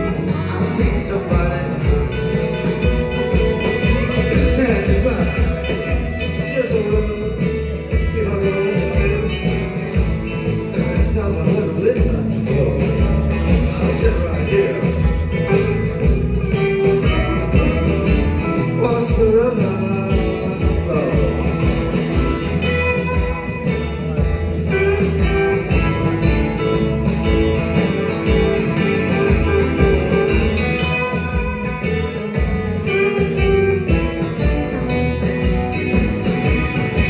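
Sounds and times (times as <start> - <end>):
electric guitar: 0.0 - 37.0
live blues-rock band: 0.0 - 37.0.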